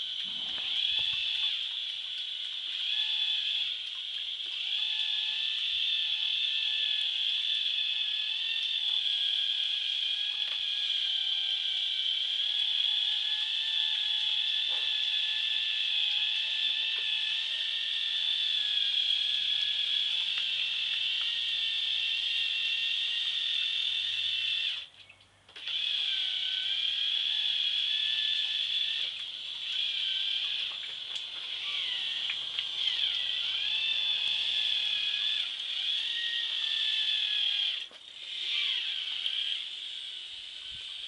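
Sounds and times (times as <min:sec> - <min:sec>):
small electric motors whining: 0:00.0 - 0:24.9, 0:25.5 - 0:41.0.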